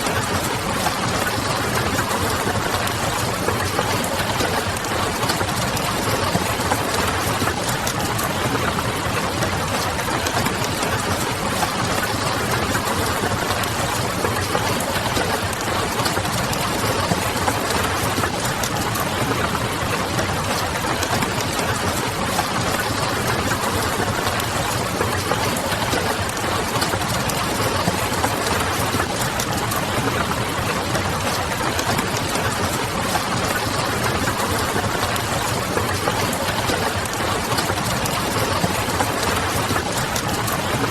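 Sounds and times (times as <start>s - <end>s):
rain pattering on a window: 0.0s - 40.9s.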